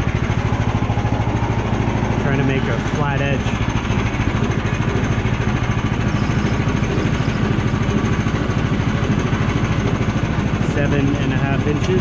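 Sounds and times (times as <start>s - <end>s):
sawmill gasoline engine running: 0.0s - 12.0s.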